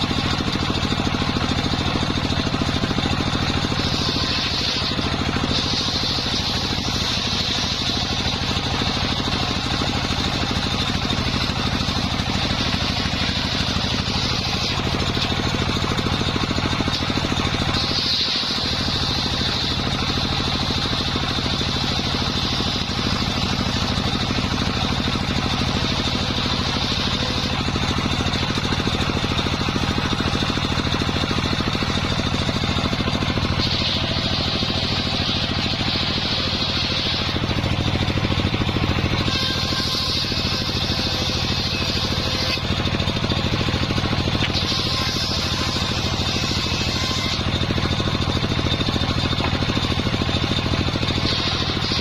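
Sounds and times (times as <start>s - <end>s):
low engine drone: 0.0s - 52.0s
saw blade whine: 0.0s - 52.0s.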